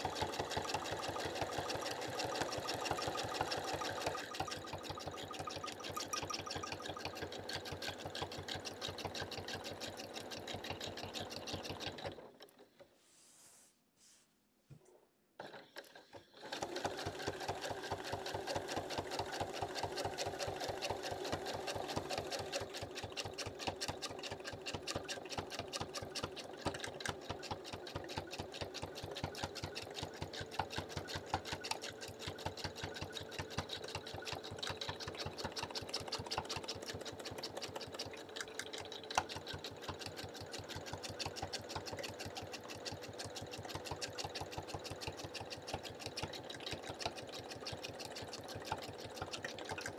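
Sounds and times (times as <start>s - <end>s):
sewing machine stitching: 0.0s - 12.9s, 15.4s - 49.9s.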